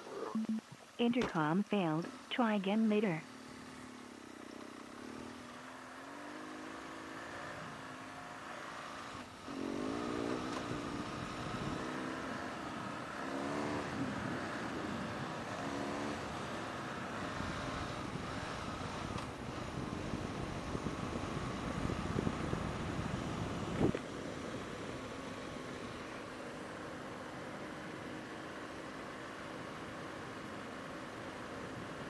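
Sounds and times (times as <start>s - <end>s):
motorcycle engine accelerating: 3.2s - 32.0s.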